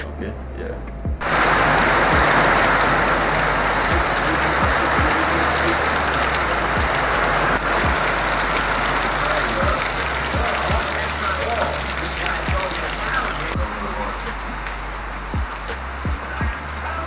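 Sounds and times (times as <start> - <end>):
background music beat: 0.0 - 17.0
heavy rain falling: 1.2 - 17.0.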